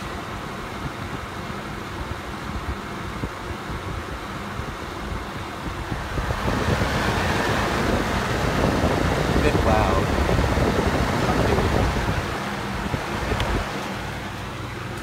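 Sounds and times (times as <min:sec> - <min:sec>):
desk fan blowing air: 0:00.0 - 0:15.0.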